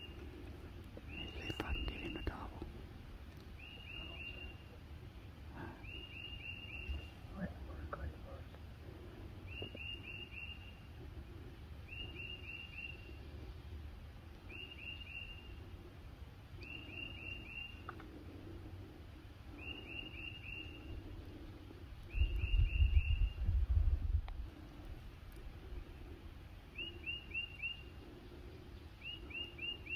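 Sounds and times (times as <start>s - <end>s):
songbird singing: 0.0s - 29.9s.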